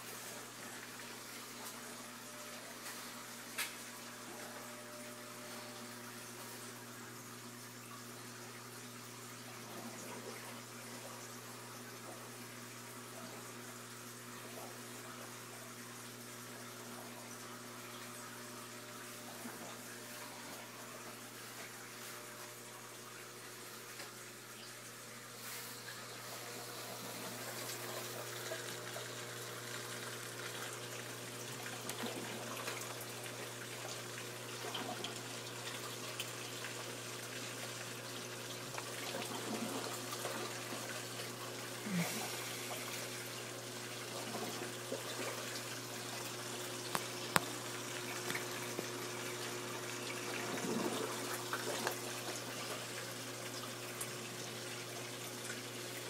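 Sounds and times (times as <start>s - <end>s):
flowing trickling water: 0.0s - 56.0s
pump hum: 0.0s - 56.0s.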